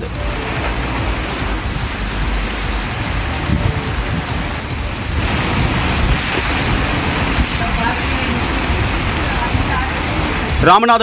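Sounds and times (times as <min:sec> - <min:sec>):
low rumble: 0:00.0 - 0:10.6
heavy rain on pavement: 0:00.0 - 0:11.0.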